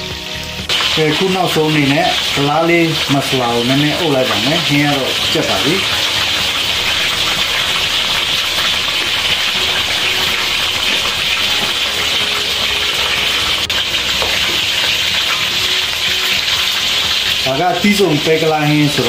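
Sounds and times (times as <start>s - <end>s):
curry boiling in a wok: 0.0s - 19.0s.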